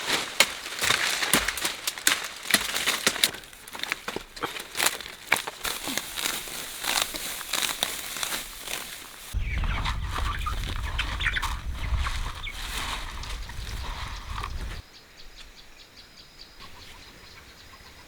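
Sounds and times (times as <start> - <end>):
dry leaves rustling and crackling: 0.0 - 14.8
sharp snapping twigs: 0.0 - 14.8.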